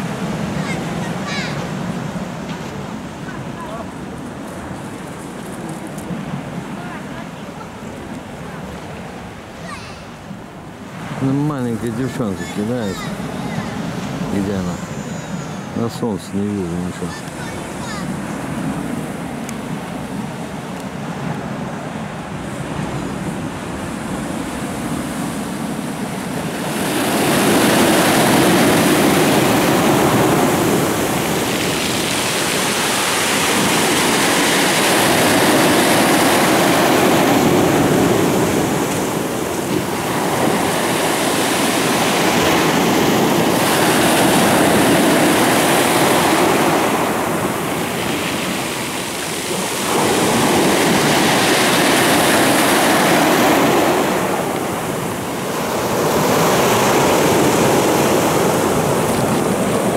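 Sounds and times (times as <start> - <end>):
surf washing over pebble beach: 0.0 - 59.9.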